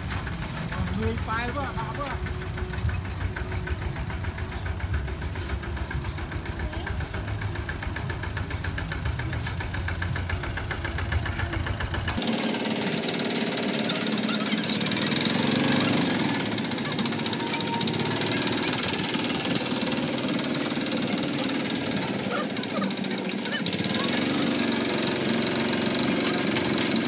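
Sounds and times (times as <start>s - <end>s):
bright noisy clatter: 0.0s - 27.0s
diesel engine chugging: 0.0s - 27.0s.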